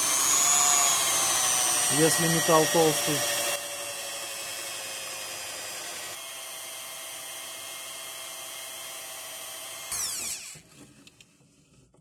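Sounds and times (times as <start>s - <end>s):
electric drill whining through steel: 0.0s - 11.3s.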